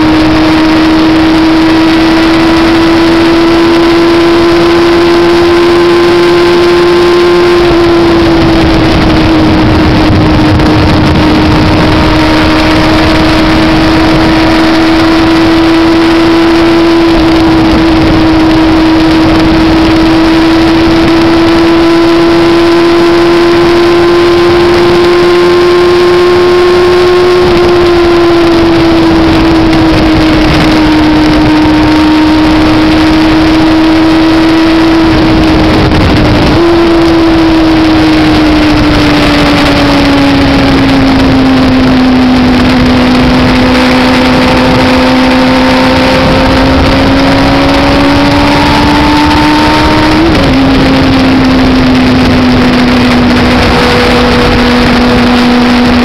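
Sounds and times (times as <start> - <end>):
motorcycle engine at high revs: 0.0 - 56.0
wind rush: 0.0 - 56.0.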